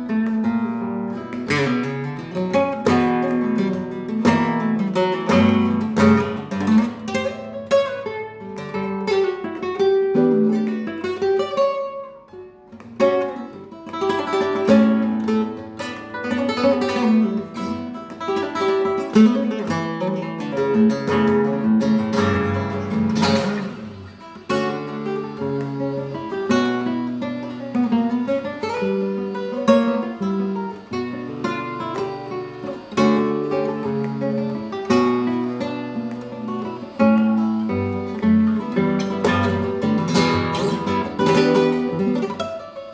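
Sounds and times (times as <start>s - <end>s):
nylon-string guitar playing: 0.0s - 42.9s.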